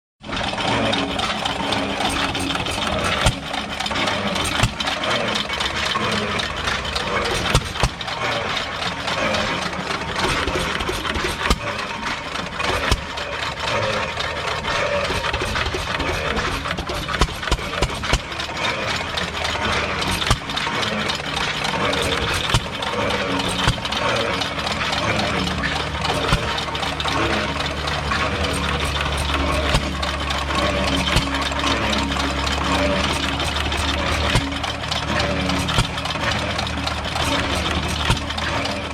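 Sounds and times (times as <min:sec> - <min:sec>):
background mechanical noise: 0:00.2 - 0:38.9
hit-and-miss engine knocking: 0:00.2 - 0:38.9.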